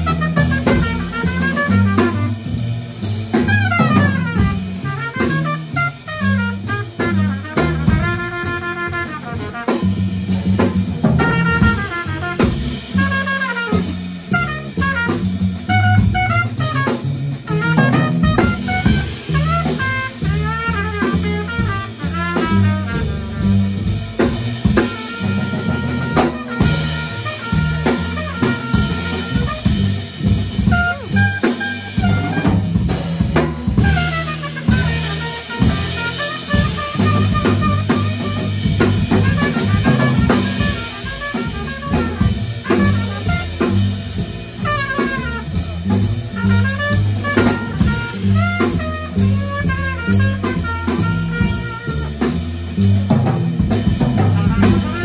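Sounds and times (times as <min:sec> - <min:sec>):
drum kit: 0:00.0 - 0:55.0
trumpet solo: 0:00.0 - 0:55.0.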